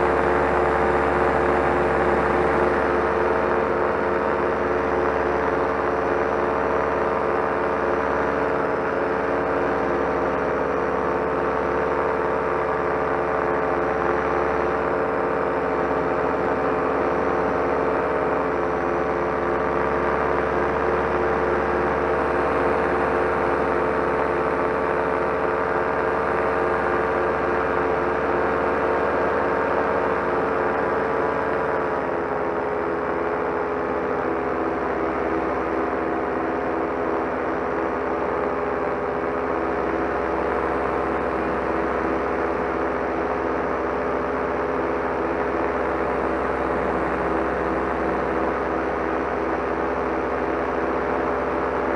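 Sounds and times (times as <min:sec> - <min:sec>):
paramotor engine and propeller: 0:00.0 - 0:51.9.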